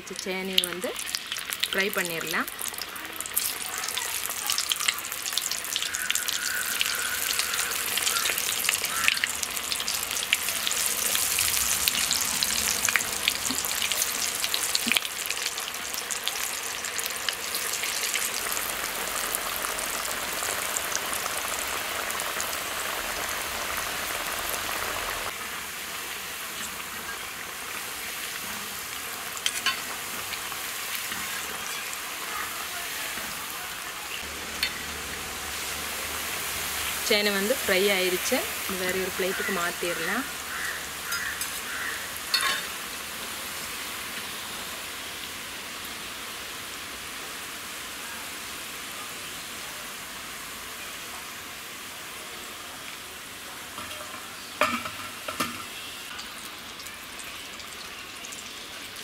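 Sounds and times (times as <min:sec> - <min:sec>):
food deep-frying in oil: 0:00.0 - 0:59.0.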